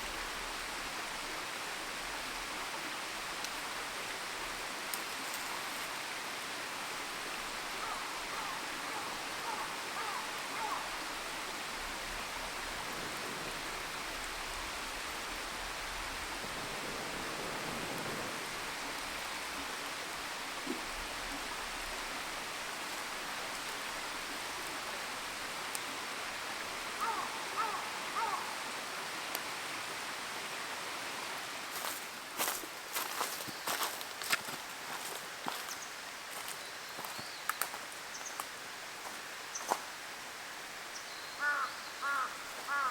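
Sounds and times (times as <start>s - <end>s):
flowing water rushing: 0.0s - 42.9s.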